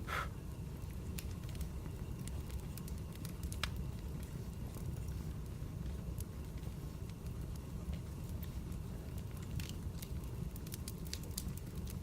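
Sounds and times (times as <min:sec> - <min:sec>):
fire crackling: 0:00.0 - 0:12.0
fire rumbling: 0:00.0 - 0:12.0.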